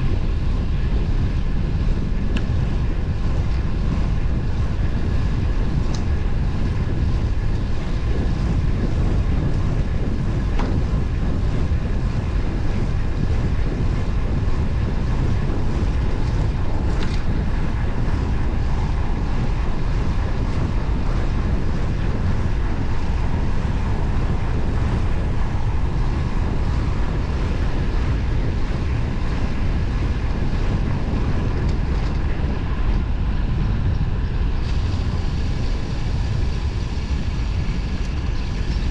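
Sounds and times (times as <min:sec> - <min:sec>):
road and tyre noise: 0:00.0 - 0:38.9
wind buffeting microphone: 0:00.0 - 0:38.9.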